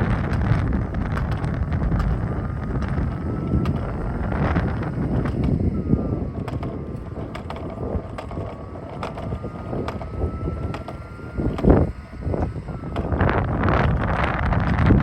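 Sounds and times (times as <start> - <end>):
low rumble: 0.0 - 15.0
robot vacuum whine: 0.0 - 15.0.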